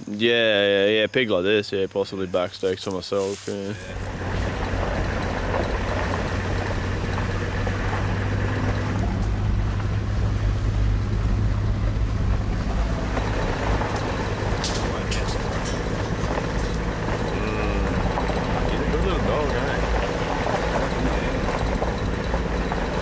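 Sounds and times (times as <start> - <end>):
vehicle engine humming: 2.2 - 23.0
sharp rattles: 2.4 - 23.0.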